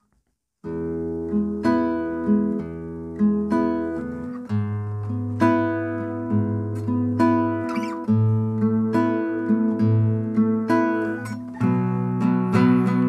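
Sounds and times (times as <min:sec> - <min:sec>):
fingerstyle classical guitar: 0:00.0 - 0:13.0.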